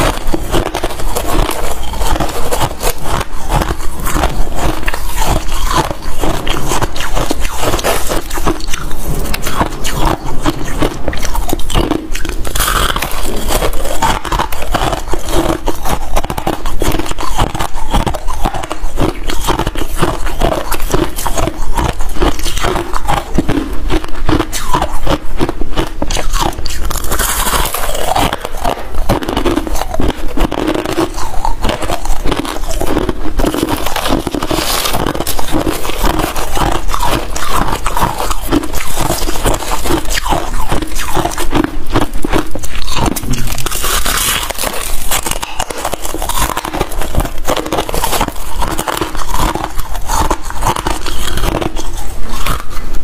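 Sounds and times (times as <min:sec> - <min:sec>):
crisp chewing crunches: 0:00.0 - 0:53.0.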